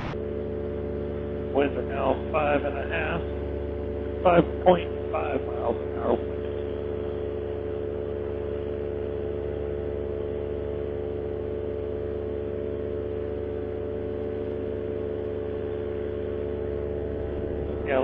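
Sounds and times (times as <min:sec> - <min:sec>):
paramotor engine droning: 0:00.0 - 0:18.0.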